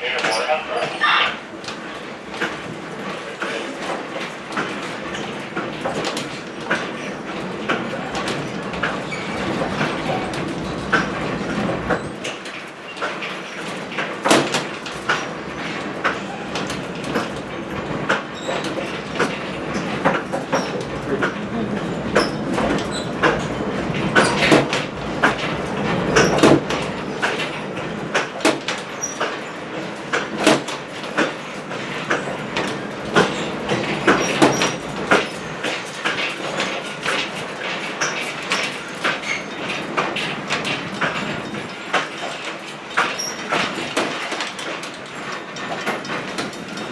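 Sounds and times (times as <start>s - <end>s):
train coach rumbling on track: 0.0s - 46.9s
wheels clicking and rattling: 1.4s - 46.9s.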